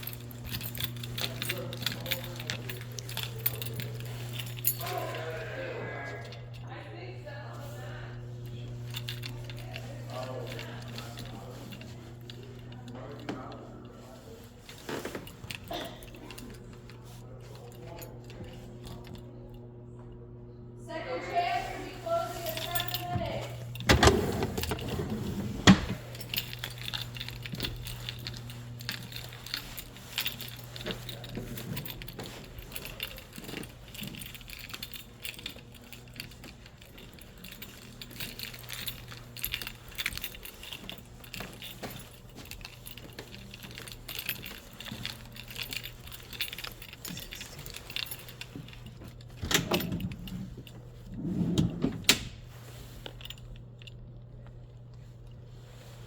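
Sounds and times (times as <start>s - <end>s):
light metallic jingling and clicking: 0.0s - 19.6s, 21.3s - 56.0s
steady low hum: 0.0s - 56.0s.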